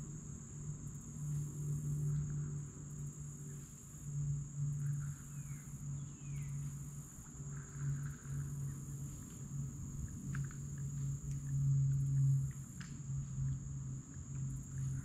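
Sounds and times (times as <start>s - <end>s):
high-pitched insect drone: 0.0s - 15.0s
low pulsing hum: 0.0s - 15.0s.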